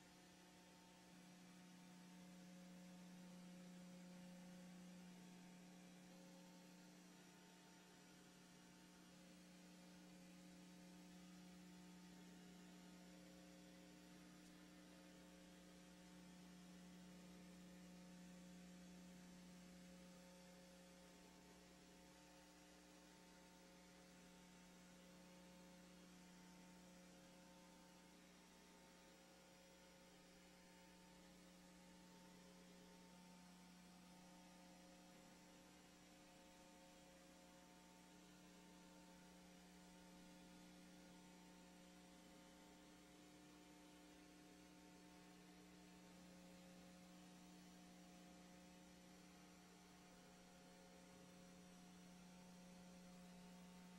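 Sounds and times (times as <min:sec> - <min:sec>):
faint electrical hum: 0:00.0 - 0:53.9.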